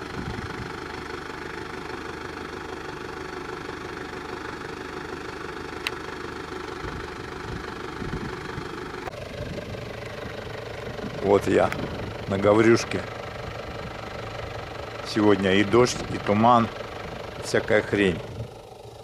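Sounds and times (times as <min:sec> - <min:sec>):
van engine running: 0:00.0 - 0:19.0.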